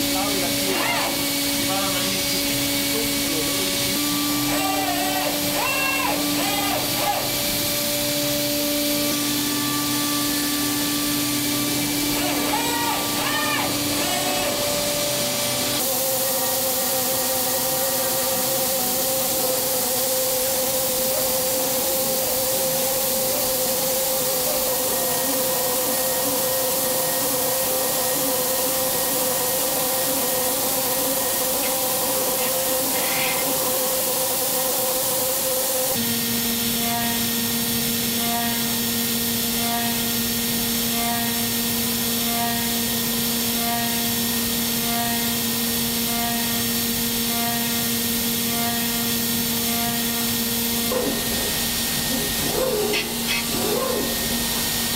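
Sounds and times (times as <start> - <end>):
hiss of cutting and coolant: 0.0 - 54.9
milling machine spindle whine: 0.0 - 54.9.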